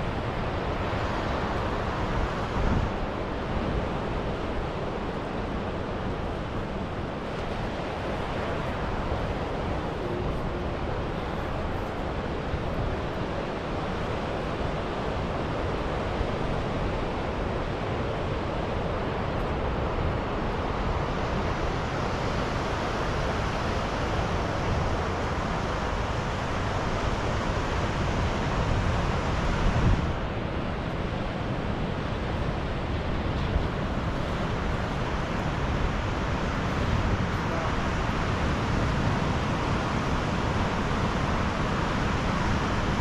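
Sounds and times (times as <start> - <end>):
wind rumbling on microphone: 0.0 - 43.0.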